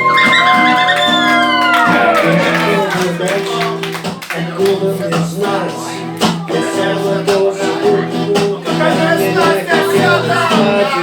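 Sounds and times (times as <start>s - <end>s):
strummed guitar: 0.0s - 11.0s.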